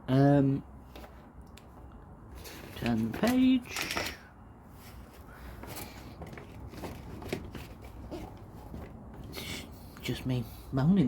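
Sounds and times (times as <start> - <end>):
soft rustles: 0.8 - 9.9.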